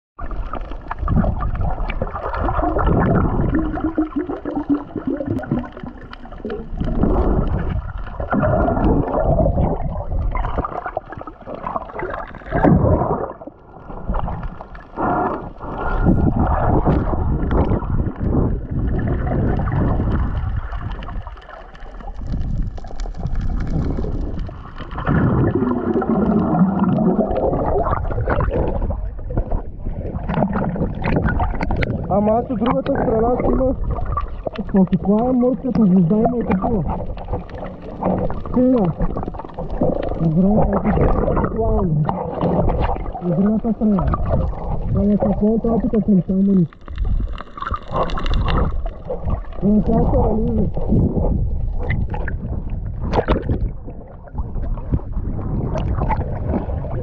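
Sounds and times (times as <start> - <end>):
underwater sloshing and gurgling: 0.2 - 57.0.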